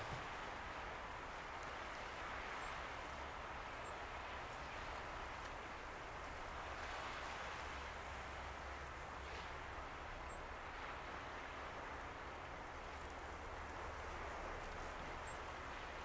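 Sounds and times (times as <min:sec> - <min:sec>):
choppy waves washing: 0:00.0 - 0:16.0.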